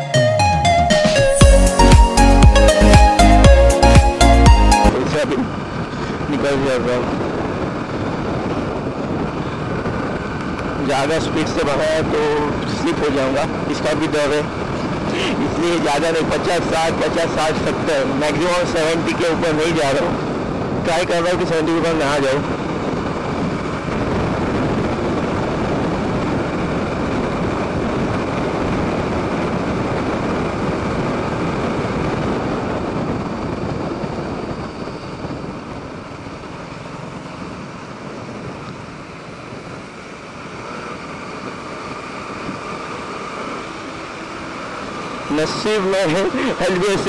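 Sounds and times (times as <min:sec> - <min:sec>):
motorcycle engine: 0:00.0 - 0:20.8, 0:21.9 - 0:47.0
wind rushing over microphone: 0:00.0 - 0:47.0.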